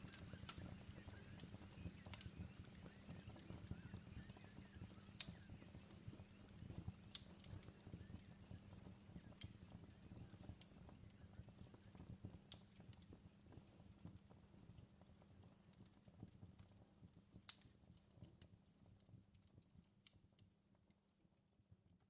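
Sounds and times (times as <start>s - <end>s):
wood fire crackling: 0.0s - 20.6s.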